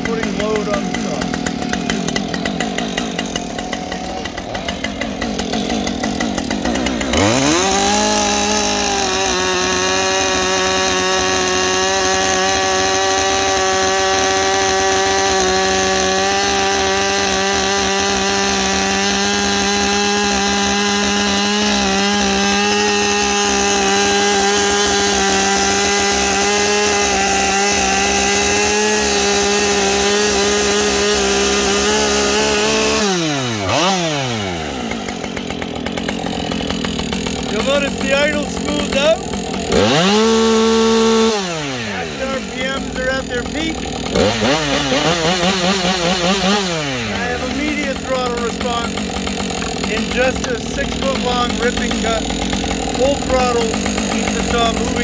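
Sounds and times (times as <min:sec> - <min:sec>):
chainsaw cutting log at full throttle: 0:00.0 - 0:55.0.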